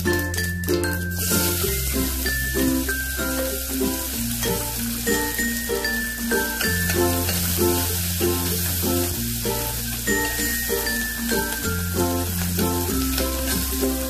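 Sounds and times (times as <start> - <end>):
background music: 0.0 - 14.0
onions sizzling in hot oil: 0.4 - 14.0.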